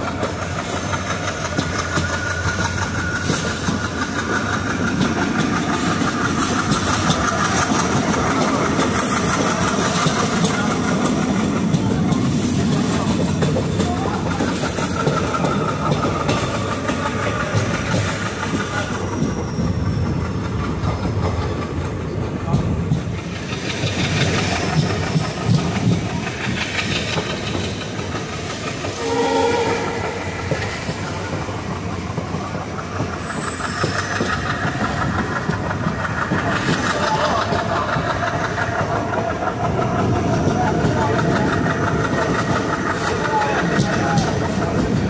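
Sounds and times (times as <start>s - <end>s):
clatter over rail joints: 0.0s - 29.0s, 30.4s - 45.0s
train rumbling on track: 0.0s - 45.0s.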